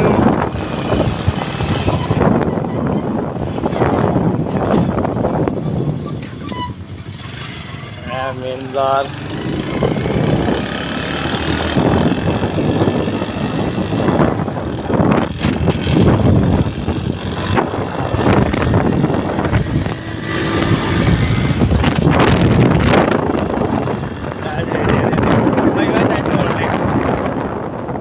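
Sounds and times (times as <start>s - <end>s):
road noise: 0.0s - 28.0s
vehicle engine: 0.0s - 28.0s
wind buffeting microphone: 0.0s - 28.0s.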